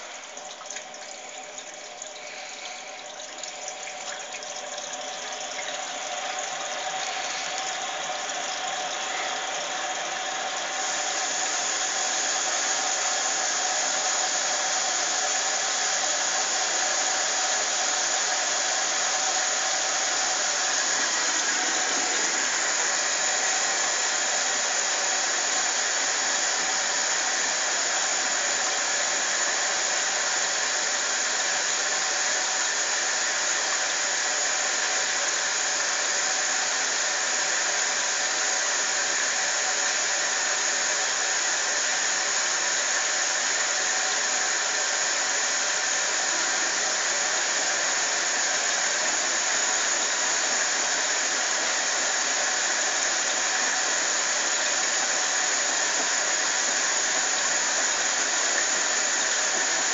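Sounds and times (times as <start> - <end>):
washing machine hissing: 0.0 - 59.9.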